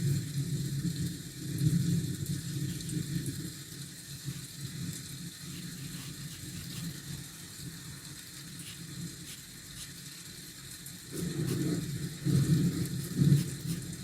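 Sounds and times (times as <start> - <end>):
rain hissing: 0.0 - 14.0.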